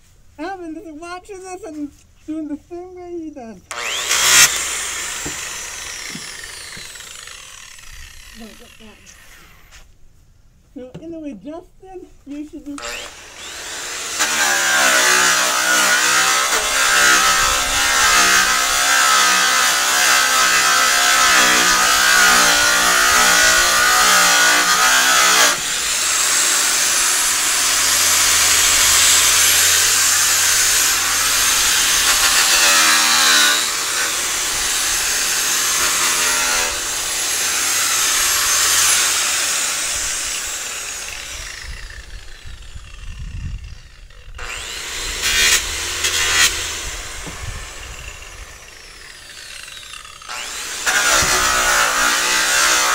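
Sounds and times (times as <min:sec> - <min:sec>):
angle grinder polishing metal: 0:03.7 - 0:09.9, 0:12.3 - 0:52.9.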